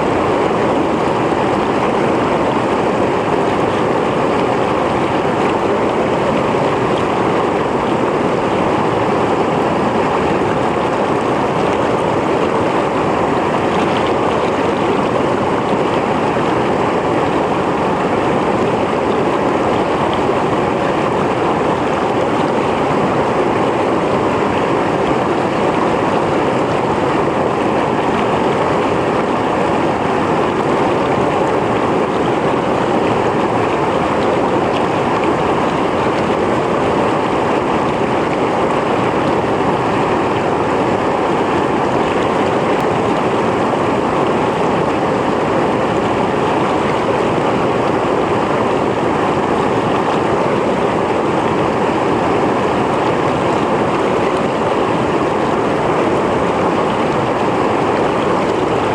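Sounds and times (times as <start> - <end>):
stream rushing over rocks: 0.0 - 58.9.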